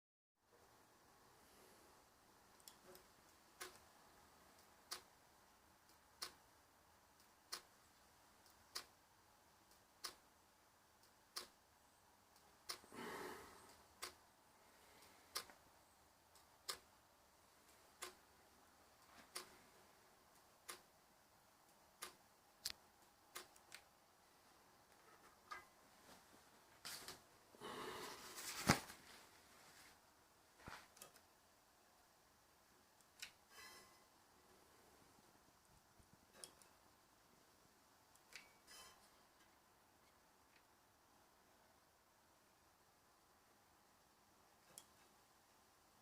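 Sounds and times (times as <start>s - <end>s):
soft rush of noise: 0.5s - 46.0s.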